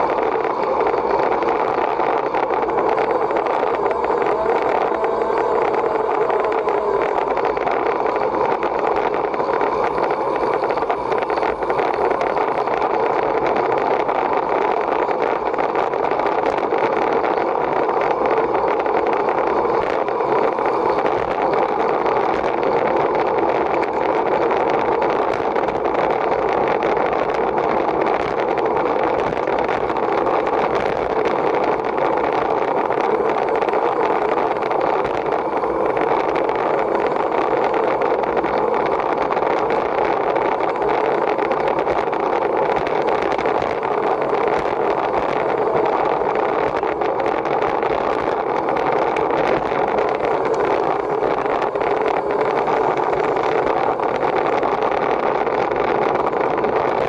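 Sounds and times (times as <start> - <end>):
bicycle tyre noise: 0.0 - 57.0
wind rushing: 0.0 - 57.0.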